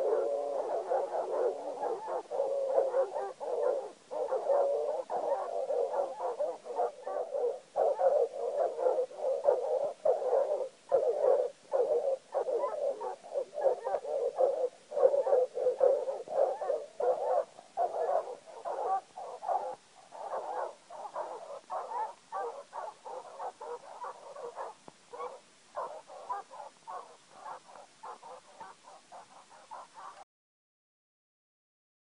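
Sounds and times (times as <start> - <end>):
hounds barking fast: 0.0 - 30.2.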